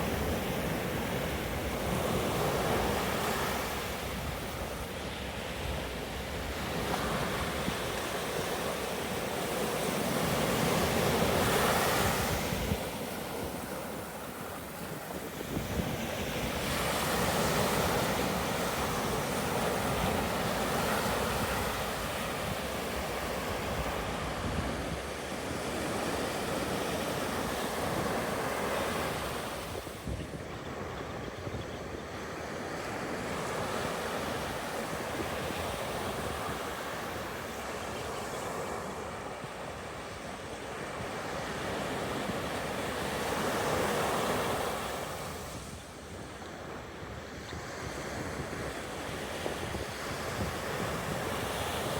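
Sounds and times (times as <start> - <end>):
ocean surf breaking on sand: 0.0 - 51.9.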